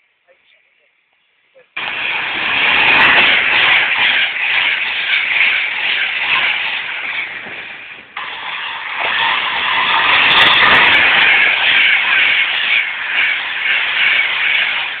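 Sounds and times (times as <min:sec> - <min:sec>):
train passing at speed: 0:01.8 - 0:15.0.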